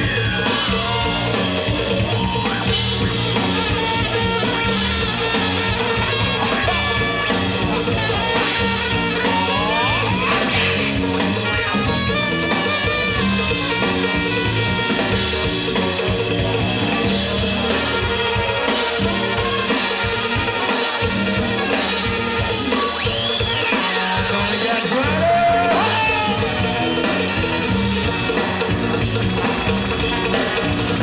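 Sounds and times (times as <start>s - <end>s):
brass section playing: 0.0s - 31.0s
drum kit with congas and timbales: 0.0s - 31.0s.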